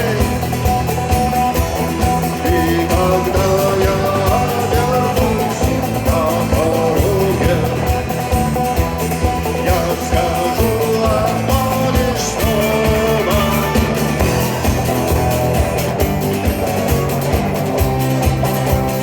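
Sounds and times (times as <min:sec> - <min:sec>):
melodic lead guitar line: 0:00.0 - 0:19.0
rock band playing: 0:00.0 - 0:19.0.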